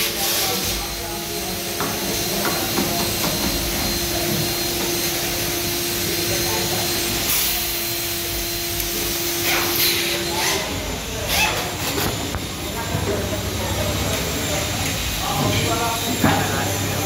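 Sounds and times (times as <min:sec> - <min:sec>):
machinery motor hum with hiss: 0:00.0 - 0:17.0.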